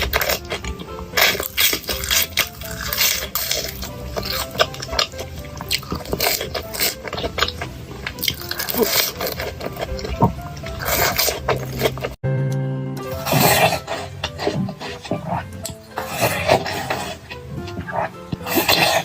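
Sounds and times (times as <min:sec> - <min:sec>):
close chewing and crunching: 0:00.0 - 0:12.2, 0:13.0 - 0:19.0
light background music: 0:00.0 - 0:19.0.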